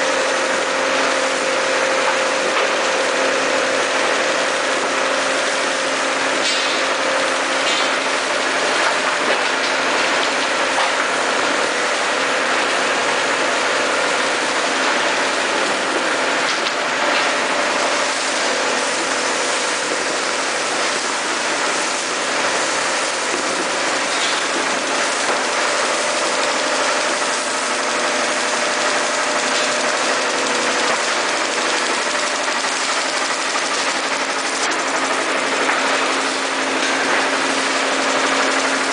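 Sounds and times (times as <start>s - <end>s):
conveyor machine humming: 0.0s - 38.9s.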